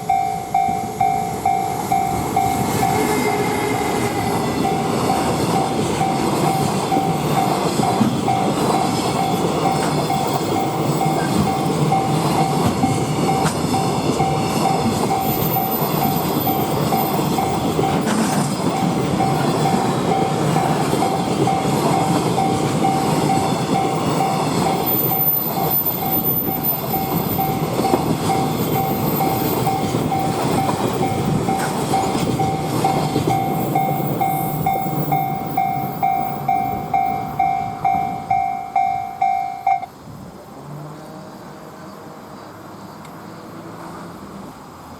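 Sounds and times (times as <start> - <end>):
level crossing alarm pulses: 0.0 - 39.9
train wheels rumbling and clacking: 0.0 - 40.4.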